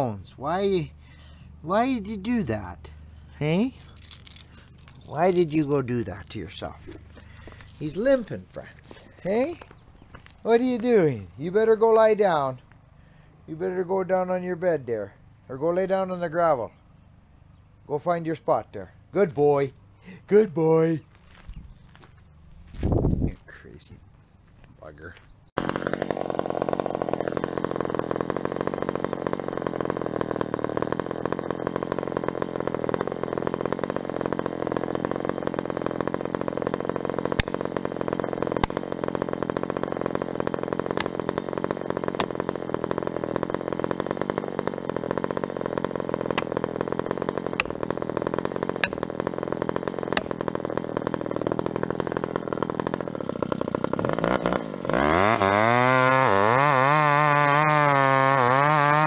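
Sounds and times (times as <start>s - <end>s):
engine running steadily: 0.0s - 11.5s, 21.0s - 59.0s.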